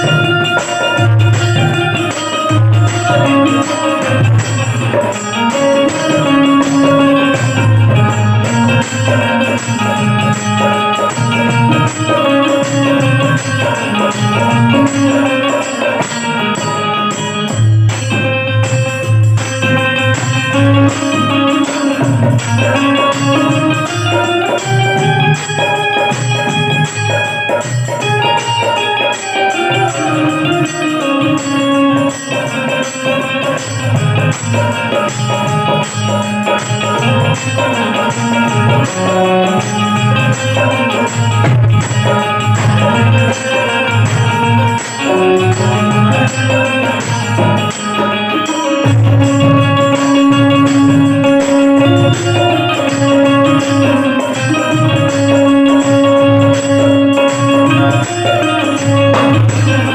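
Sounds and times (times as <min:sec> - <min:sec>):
banjo melody: 0:00.0 - 0:59.9
percussion beat: 0:00.0 - 0:59.9.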